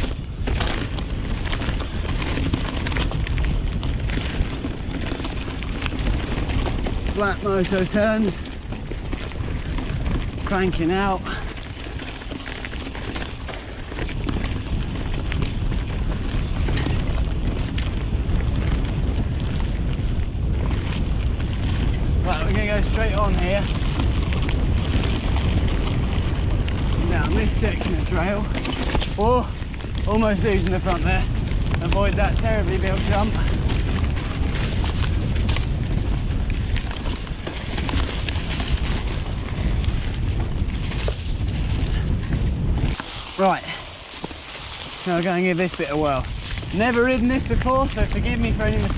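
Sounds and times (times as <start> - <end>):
bike rattling over bumps: 0.0 - 48.9
tyres rumbling over dirt: 0.0 - 48.9
wind buffeting microphone: 0.0 - 48.9.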